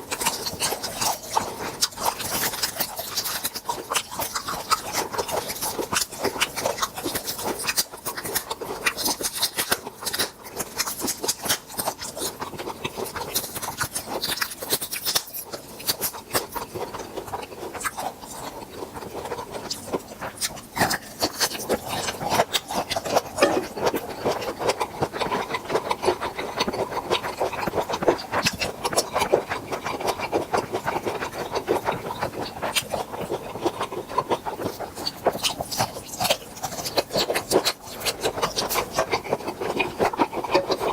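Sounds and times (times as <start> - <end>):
crunching and chewing prawns: 0.0 - 40.9.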